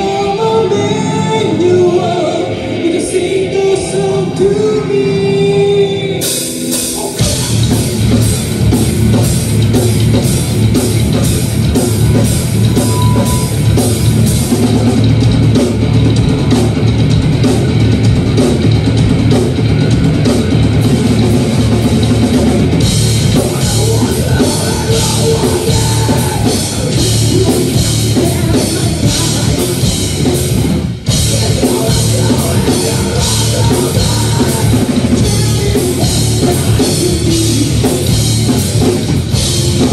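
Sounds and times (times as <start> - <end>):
bass guitar: 0.0 - 39.9
electric guitars: 0.0 - 39.9
drum kit with busy cymbals: 5.5 - 39.9.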